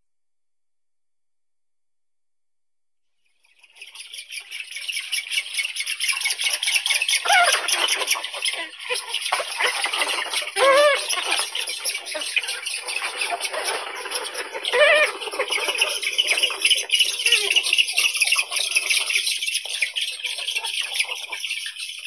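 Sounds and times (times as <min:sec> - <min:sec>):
birds chattering in a colony: 0:03.7 - 0:22.0.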